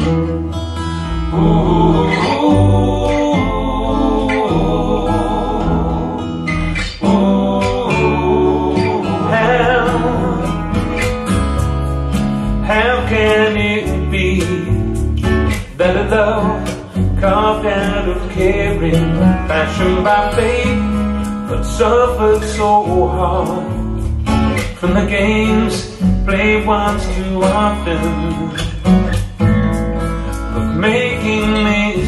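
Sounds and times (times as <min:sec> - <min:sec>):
song with singing over bass: 0:00.0 - 0:32.0.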